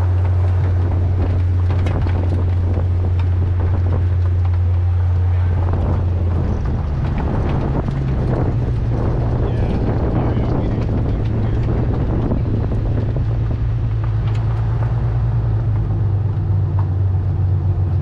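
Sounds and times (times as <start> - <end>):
car engine pulling: 0.0 - 18.0
road and wind noise: 0.0 - 18.0.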